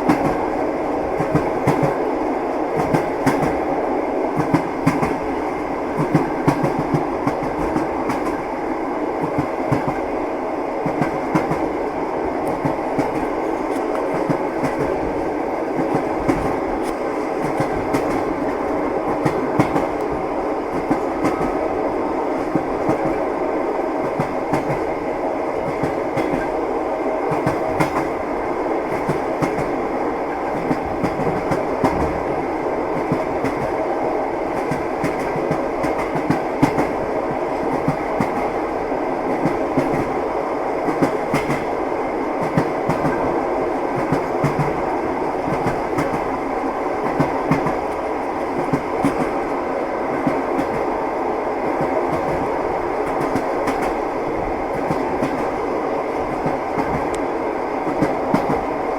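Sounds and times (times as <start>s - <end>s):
train rumbling: 0.0s - 58.9s.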